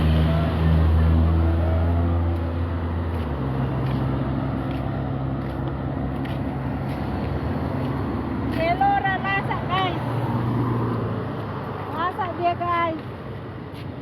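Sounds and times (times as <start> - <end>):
vehicle engine droning: 0.0 - 11.3.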